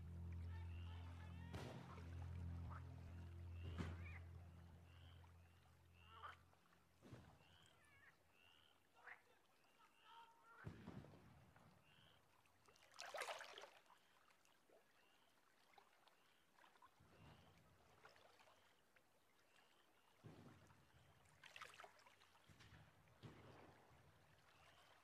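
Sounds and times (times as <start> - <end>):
water sloshing and splashing: 0.0 - 10.0, 10.6 - 25.0.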